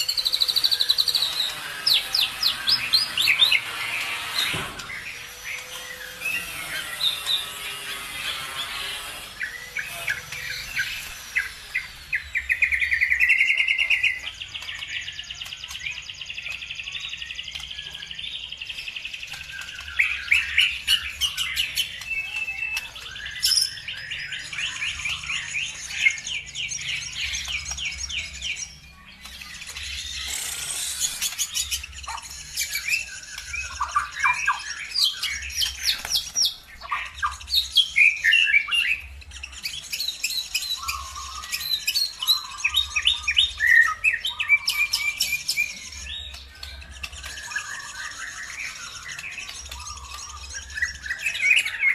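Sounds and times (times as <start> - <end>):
songbirds trilling and chirping: 0.0 - 51.9.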